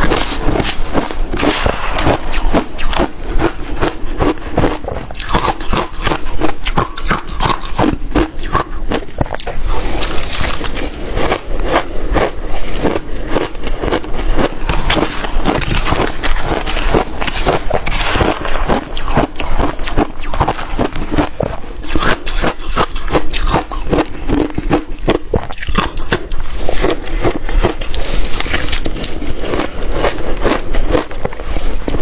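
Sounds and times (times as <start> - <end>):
ice crunching while chewed: 0.0 - 32.0.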